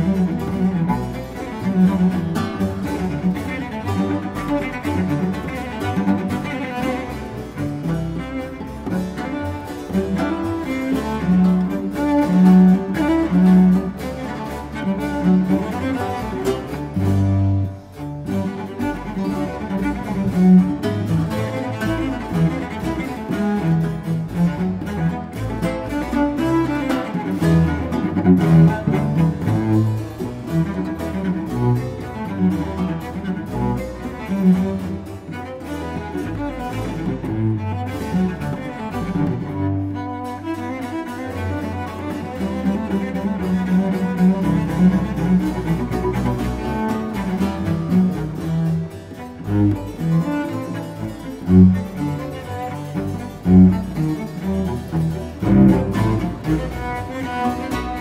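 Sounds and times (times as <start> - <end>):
deep bowed strings: 0.0 - 58.0
instrumental background music: 0.0 - 58.0.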